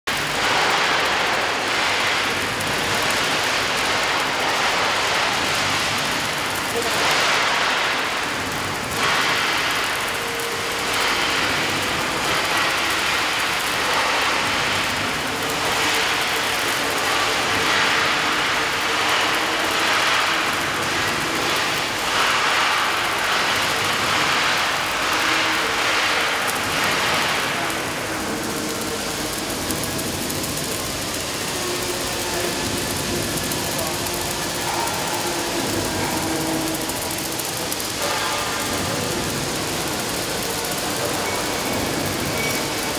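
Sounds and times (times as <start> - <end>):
welding arc hissing and crackling: 0.0 - 42.9.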